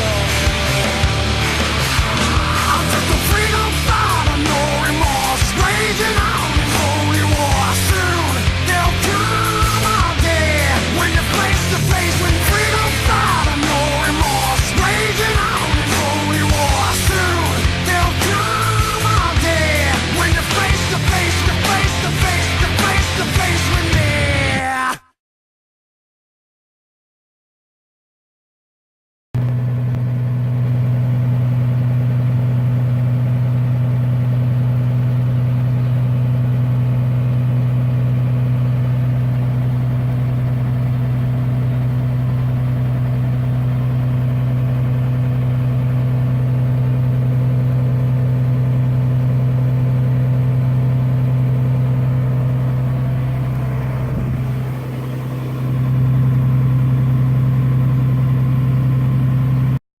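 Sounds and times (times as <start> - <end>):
harvester engine running: 0.0 - 24.4, 29.4 - 59.8.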